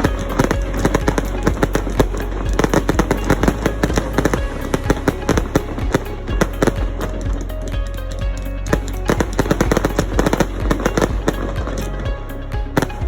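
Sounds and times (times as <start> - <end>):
fireworks bursting: 0.0 - 7.7, 8.7 - 12.0
low rumble: 0.0 - 13.0
music playing: 0.0 - 13.0.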